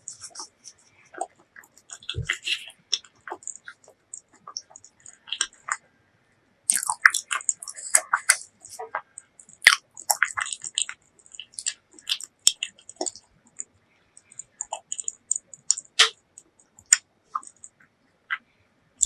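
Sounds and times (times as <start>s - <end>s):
close chewing with wet mouth sounds: 0.0s - 5.8s, 6.7s - 18.4s.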